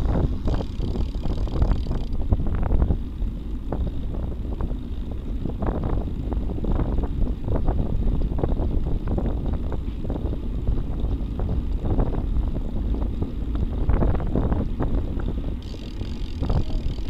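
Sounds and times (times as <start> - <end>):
tyre and road rumble: 0.0 - 17.0
wind buffeting microphone: 0.0 - 17.0.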